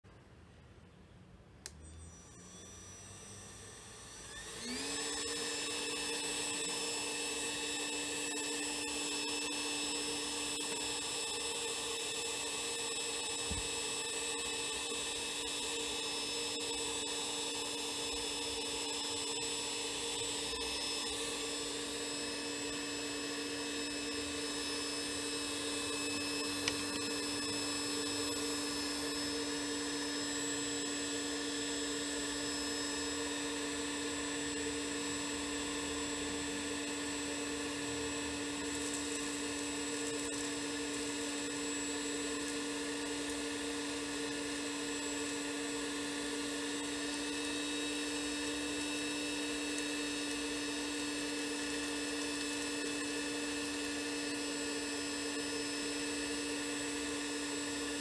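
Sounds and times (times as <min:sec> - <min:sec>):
fan motor whining: 0:01.7 - 0:54.7.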